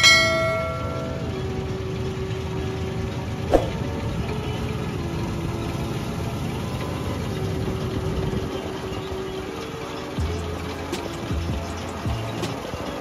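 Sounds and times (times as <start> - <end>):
combine harvester engine hum: 0.0 - 13.0.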